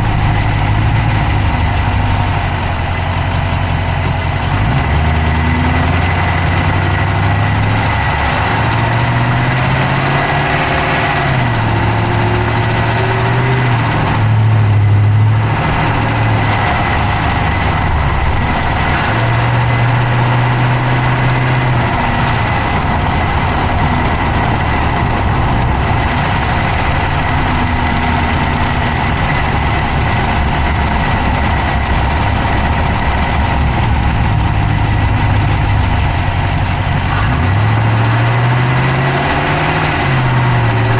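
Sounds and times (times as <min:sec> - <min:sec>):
car engine idling: 0:00.0 - 0:40.9
fast engine clicking: 0:00.0 - 0:40.9.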